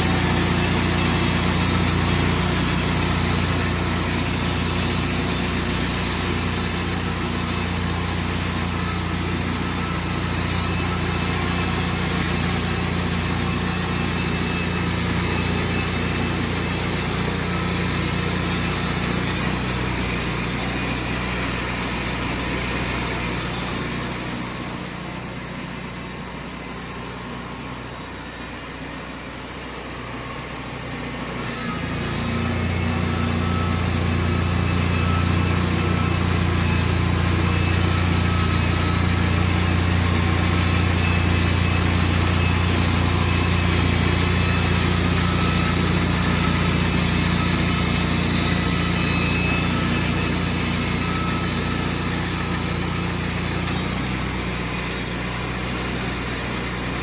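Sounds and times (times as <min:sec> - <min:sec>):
band sawmill engine hum: 0:00.0 - 0:57.0.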